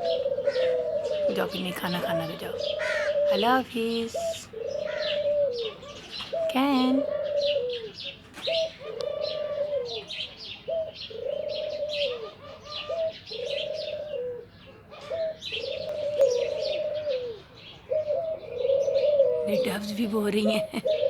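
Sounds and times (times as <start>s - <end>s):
doves cooing: 0.0s - 21.0s
small birds chirping: 0.0s - 21.0s.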